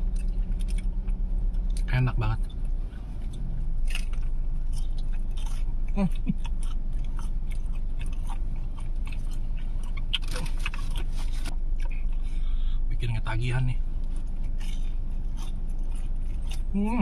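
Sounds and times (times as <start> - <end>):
chewing with crunches: 0.0 - 17.0.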